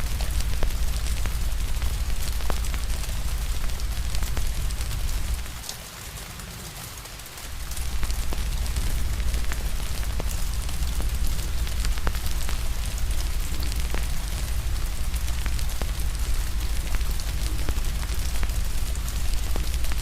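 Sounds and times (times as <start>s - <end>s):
deep low rumble: 0.0s - 5.6s, 7.6s - 20.0s
fire crackling and popping: 0.0s - 6.6s, 7.2s - 20.0s
rain hissing: 0.0s - 20.0s.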